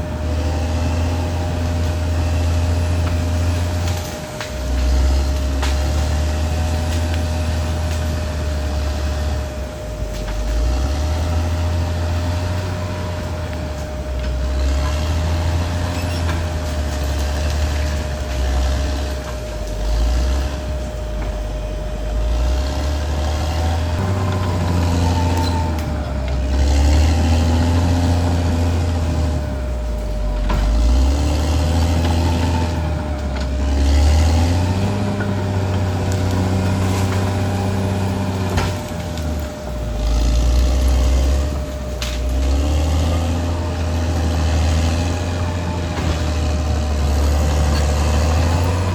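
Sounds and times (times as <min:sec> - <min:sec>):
bulldozer diesel engine running hard: 0:00.0 - 0:48.9
steady whine: 0:00.0 - 0:48.9.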